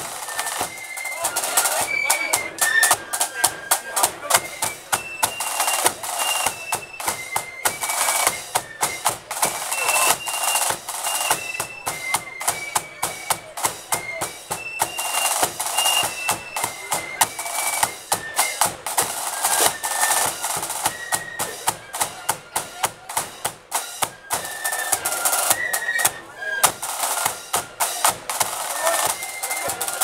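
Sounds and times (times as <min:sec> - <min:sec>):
flutes playing melody: 0:00.0 - 0:30.0
snare and bass drum: 0:00.0 - 0:30.0.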